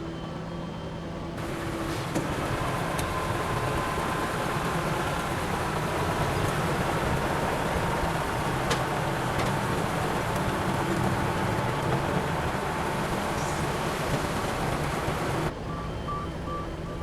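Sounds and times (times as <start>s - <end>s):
faint steady whine: 0.0s - 17.0s
diesel engine running: 1.4s - 15.8s.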